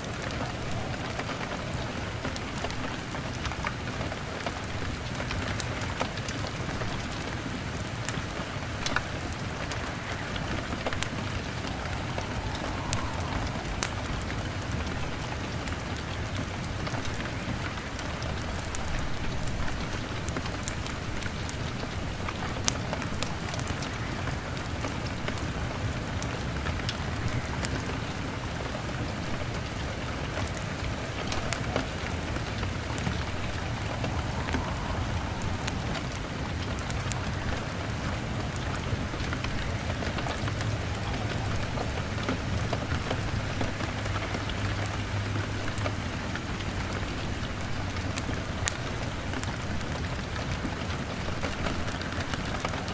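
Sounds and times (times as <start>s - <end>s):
rain pattering on a window: 0.0s - 52.9s
wood fire crackling: 0.0s - 52.9s.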